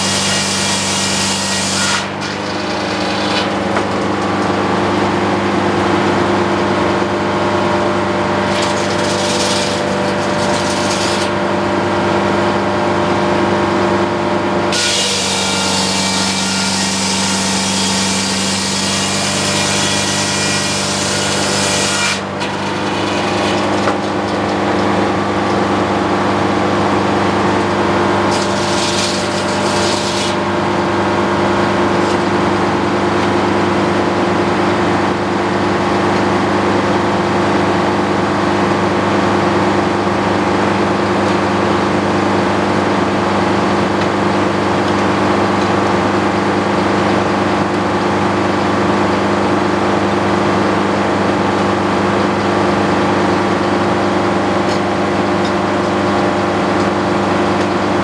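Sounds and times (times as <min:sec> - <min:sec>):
sawmill mechanical hum: 0:00.0 - 0:58.0.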